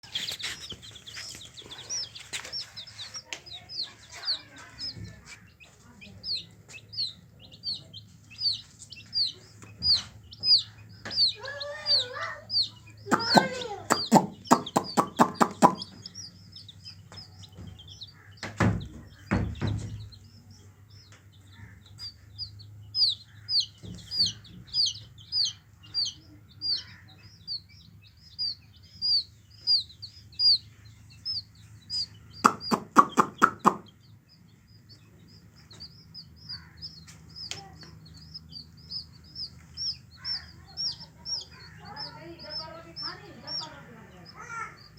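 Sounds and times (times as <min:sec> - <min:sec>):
hen clucking: 0:00.0 - 0:20.1, 0:21.4 - 0:34.2, 0:35.7 - 0:44.9
chicks peeping: 0:00.0 - 0:44.9.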